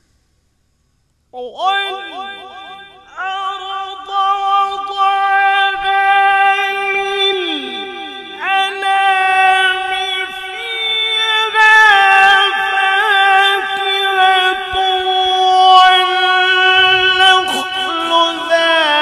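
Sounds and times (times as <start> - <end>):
man reciting melodically: 1.4 - 19.0.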